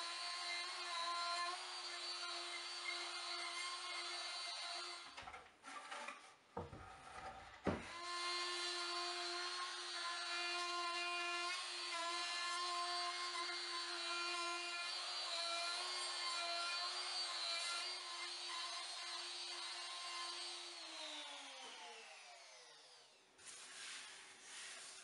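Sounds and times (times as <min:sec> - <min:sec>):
trim router whining: 0:00.0 - 0:05.2, 0:07.7 - 0:23.2.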